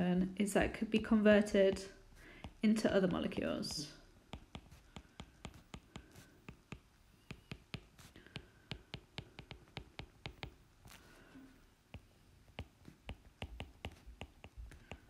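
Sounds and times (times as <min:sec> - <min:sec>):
pen tapping while writing: 0:01.5 - 0:11.0, 0:11.9 - 0:15.0.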